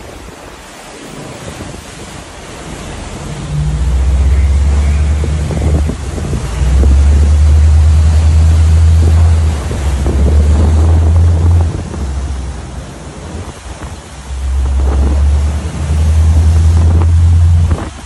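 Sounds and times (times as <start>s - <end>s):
sea water rushing along hull: 0.0s - 18.0s
wind buffeting microphone: 0.0s - 18.0s
loud low rumble: 2.9s - 18.0s.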